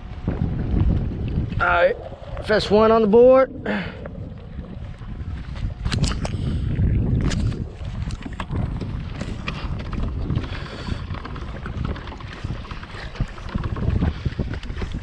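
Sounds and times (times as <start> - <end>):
wind buffeting microphone: 0.0 - 15.0
water slapping against kayak hull: 0.2 - 15.0.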